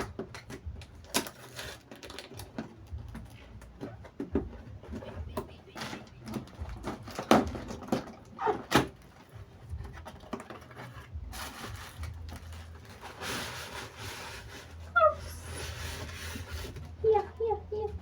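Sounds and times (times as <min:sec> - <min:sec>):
packaging rustling and rubbing: 0:00.0 - 0:04.0, 0:06.0 - 0:17.0.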